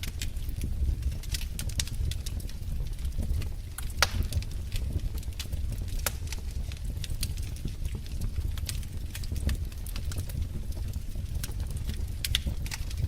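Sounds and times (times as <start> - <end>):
fire crackling and popping: 0.0 - 13.0
low rumble of burning wood: 0.0 - 13.0.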